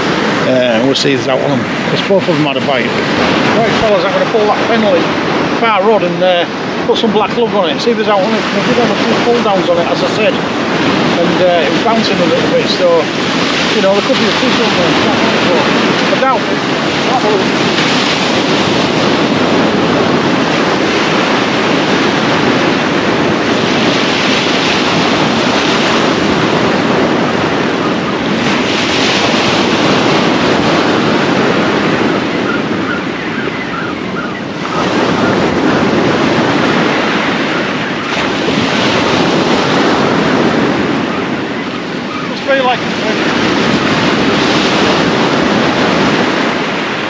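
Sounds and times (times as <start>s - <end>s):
sea surf breaking: 0.0s - 47.0s.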